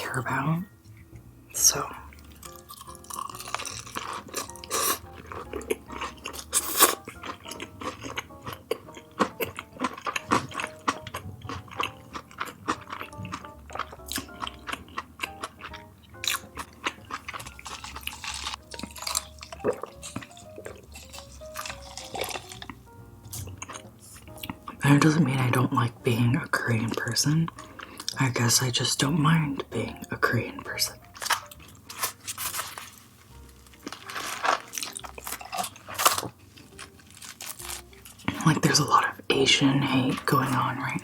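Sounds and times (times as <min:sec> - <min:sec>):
quiet background music: 0:00.0 - 0:41.0
wet chewing and mouth clicks: 0:02.0 - 0:25.3, 0:26.8 - 0:28.2, 0:29.6 - 0:38.8.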